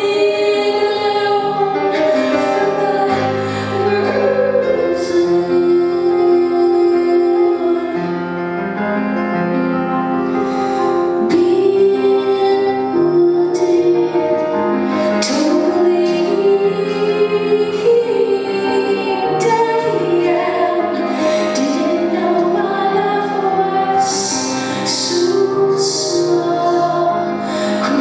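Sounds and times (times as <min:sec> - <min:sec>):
woman singing a slow song: 0:00.0 - 0:08.3, 0:11.2 - 0:28.0
keyboard accompaniment: 0:00.0 - 0:28.0.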